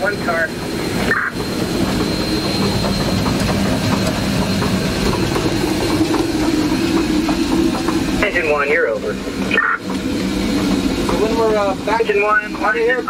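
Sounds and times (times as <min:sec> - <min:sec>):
steam locomotive rumble: 0:00.0 - 0:13.0
wheels clattering on rails: 0:00.0 - 0:13.0.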